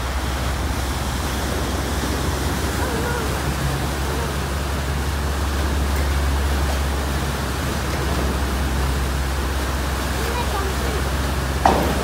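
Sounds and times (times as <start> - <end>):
propeller wash churning against pilings: 0.0 - 12.0
ship engine low rumble: 0.0 - 12.0.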